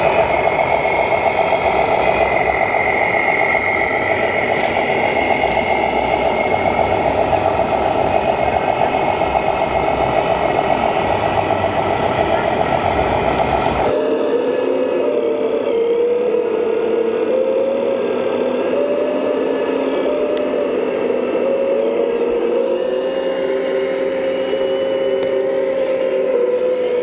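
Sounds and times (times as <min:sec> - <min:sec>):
electric motor and pump whine: 0:00.0 - 0:27.0
loud rumbling noise: 0:00.0 - 0:27.0.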